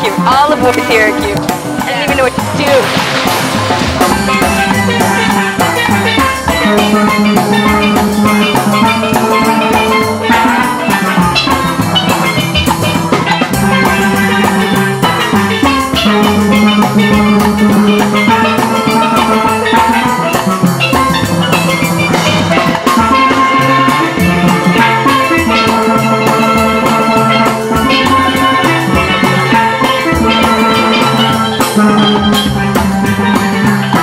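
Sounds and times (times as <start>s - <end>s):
steel band playing: 0.0s - 34.0s.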